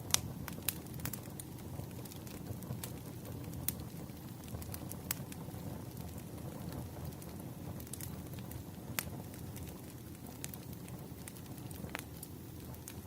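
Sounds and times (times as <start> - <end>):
sharp pops of burning logs: 0.0 - 13.0
wood fire crackling: 0.0 - 13.0.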